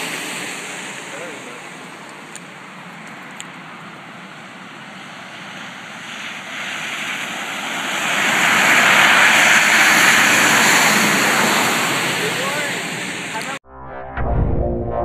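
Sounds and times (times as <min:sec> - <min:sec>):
tyres hissing on snowy road: 0:00.0 - 0:13.6.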